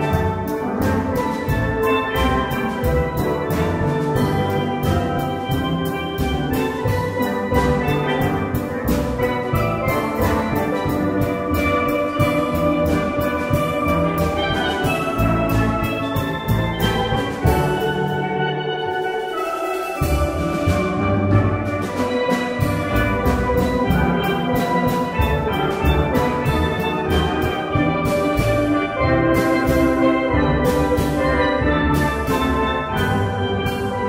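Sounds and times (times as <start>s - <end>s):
instrumental ensemble playing: 0.0s - 34.0s
steady drum beat: 0.0s - 34.0s.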